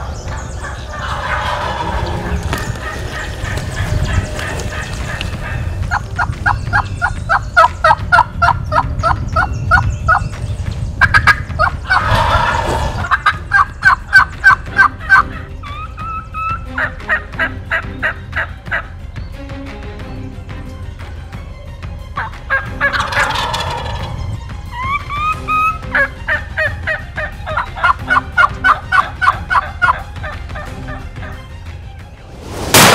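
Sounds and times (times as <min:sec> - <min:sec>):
turkey gobble: 0:00.0 - 0:10.2, 0:11.0 - 0:18.9, 0:22.2 - 0:31.4
turkey yelps: 0:00.1 - 0:10.2, 0:11.0 - 0:18.9, 0:22.2 - 0:31.4.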